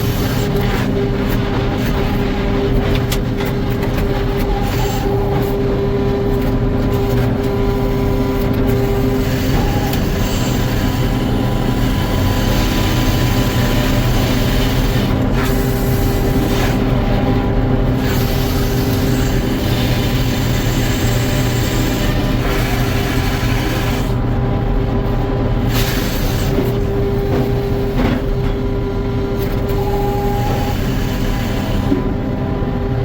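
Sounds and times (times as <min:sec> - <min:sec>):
machinery whining tone: 0:00.0 - 0:33.0
sawmill machinery drone: 0:00.0 - 0:33.0.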